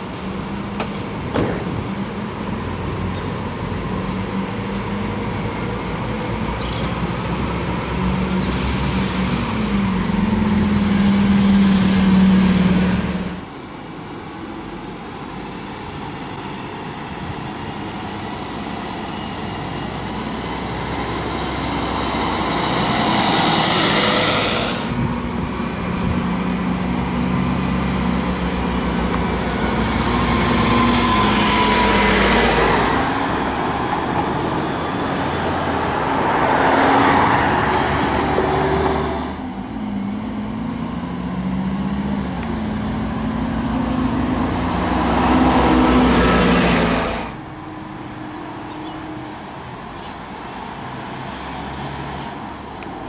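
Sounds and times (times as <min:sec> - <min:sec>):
buses driving past: 0:00.0 - 0:53.0.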